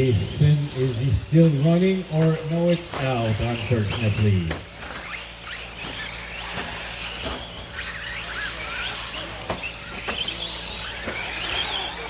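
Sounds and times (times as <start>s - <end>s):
toy car motors whining: 0.0s - 12.0s.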